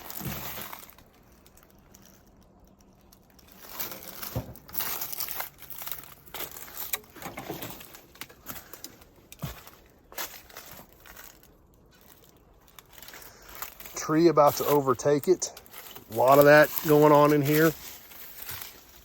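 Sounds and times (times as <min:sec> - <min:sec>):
footsteps crunching over ground: 0:00.0 - 0:19.0.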